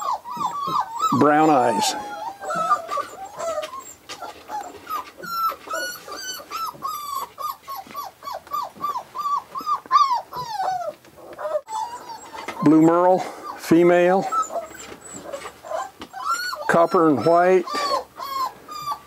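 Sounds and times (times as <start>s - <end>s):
puppy whimpering: 0.0s - 19.0s.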